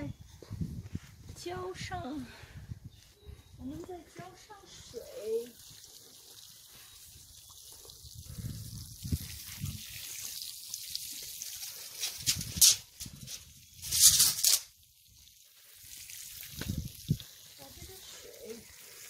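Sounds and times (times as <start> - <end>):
water sprinkling onto soil: 3.6 - 19.0.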